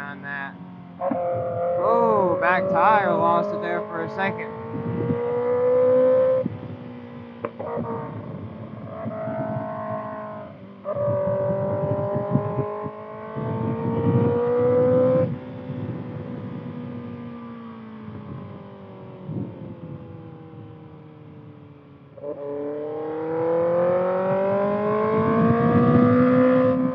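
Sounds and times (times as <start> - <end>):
motorcycle engine revving: 0.0 - 21.2, 22.2 - 26.9.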